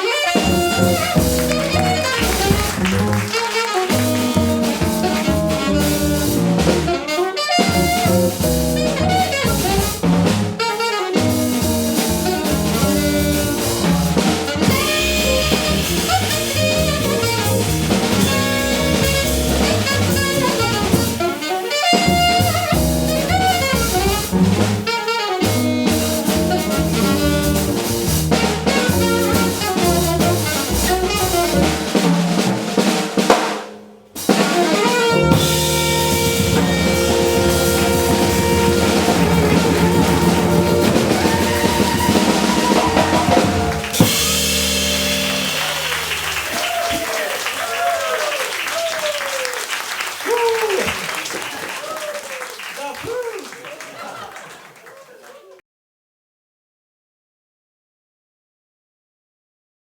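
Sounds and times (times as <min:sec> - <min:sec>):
saxophone lead: 0:00.0 - 0:32.0, 0:34.3 - 0:51.4
bass: 0:00.0 - 0:48.9
drum kit: 0:00.0 - 0:49.2.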